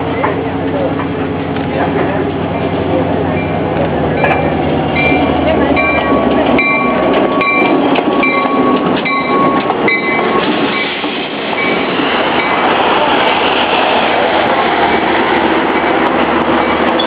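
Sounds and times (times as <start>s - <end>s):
train cars rolling past: 0.0s - 17.0s.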